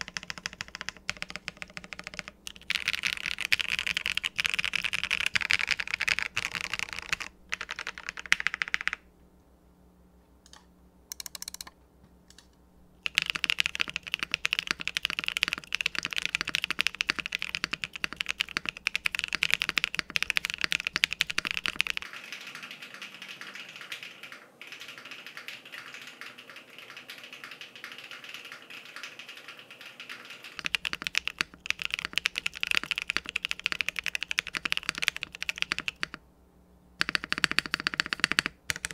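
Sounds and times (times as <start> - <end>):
mechanical keyboard typing: 0.0 - 9.0, 10.5 - 11.7, 13.0 - 36.2, 37.0 - 38.9.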